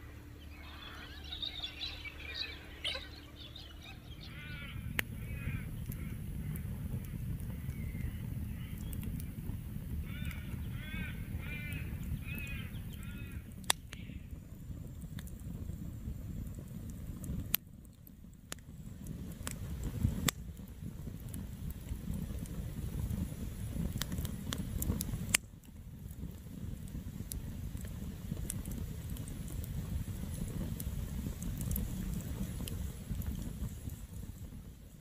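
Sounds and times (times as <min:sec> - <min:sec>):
wood crackling and popping: 0:00.0 - 0:10.7, 0:11.6 - 0:35.0
low rush of flame: 0:00.0 - 0:35.0.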